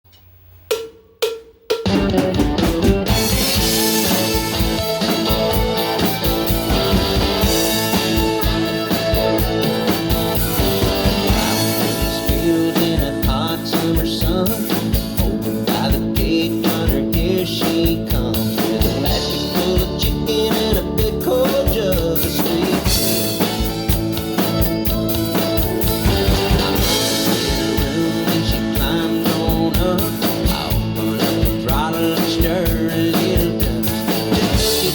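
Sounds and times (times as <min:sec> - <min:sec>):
drum kit playing: 0:00.1 - 0:34.9
country song with singing: 0:03.0 - 0:34.9.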